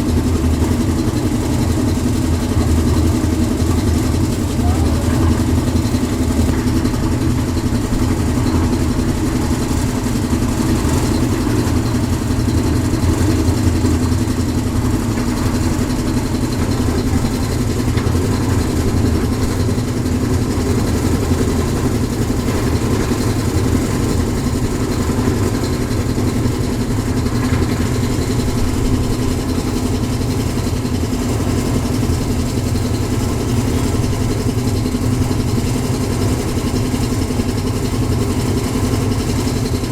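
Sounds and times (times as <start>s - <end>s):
concrete mixer engine running: 0.0s - 39.9s.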